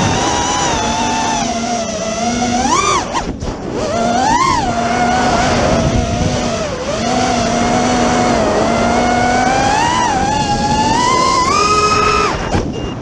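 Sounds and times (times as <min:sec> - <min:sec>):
drone motors whining: 0:00.0 - 0:13.0
wind noise rumble: 0:00.0 - 0:13.0.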